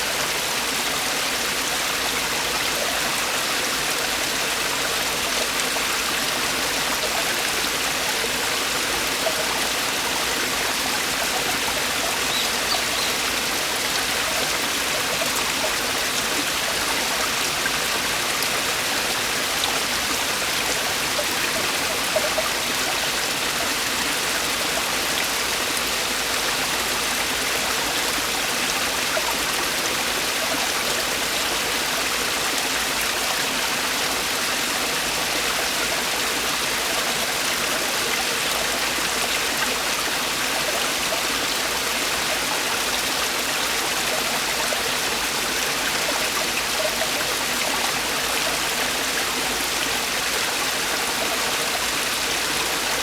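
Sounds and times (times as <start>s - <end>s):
stream splashing over rocks: 0.0s - 53.0s.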